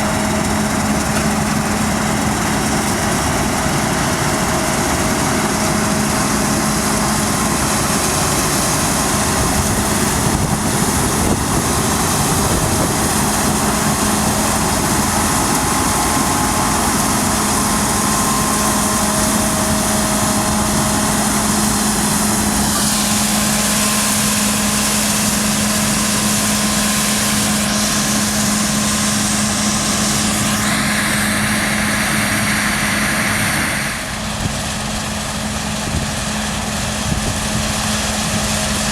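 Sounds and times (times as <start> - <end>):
high machine whines: 0.0 - 38.2
combine harvester engine hum: 0.0 - 38.9.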